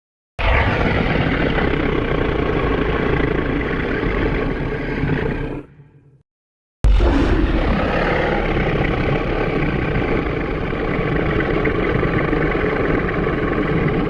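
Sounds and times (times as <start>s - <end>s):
creature rough rumble: 0.4s - 6.2s, 6.8s - 14.0s.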